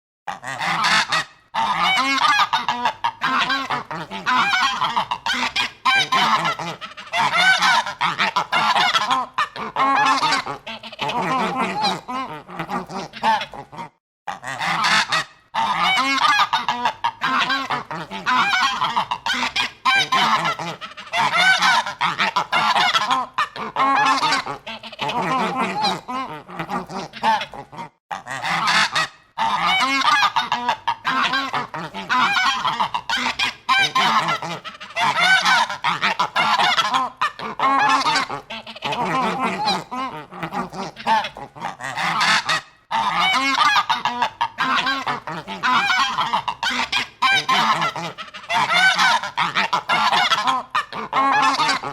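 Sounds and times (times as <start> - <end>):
geese honking: 0.3 - 13.6, 14.3 - 27.6, 28.2 - 51.9.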